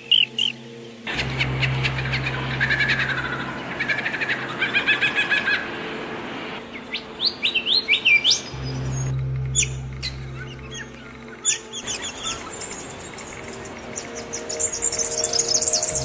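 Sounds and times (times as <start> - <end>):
background hiss: 0.0 - 16.0
songbirds chirping: 0.0 - 16.0
low hum: 0.7 - 7.2, 8.3 - 16.0.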